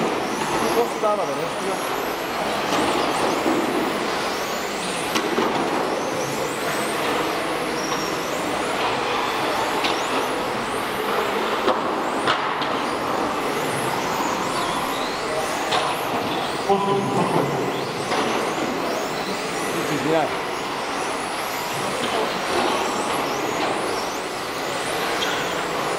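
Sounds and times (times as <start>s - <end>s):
model car motors whining: 0.2s - 16.7s, 17.7s - 25.9s.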